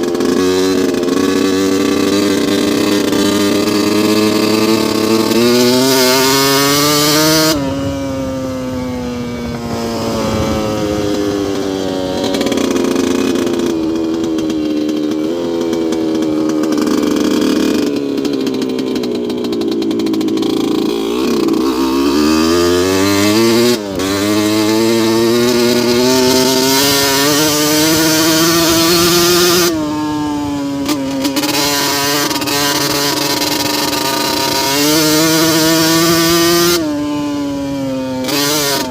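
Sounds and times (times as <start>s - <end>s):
two-stroke engine running hard: 0.0s - 38.9s.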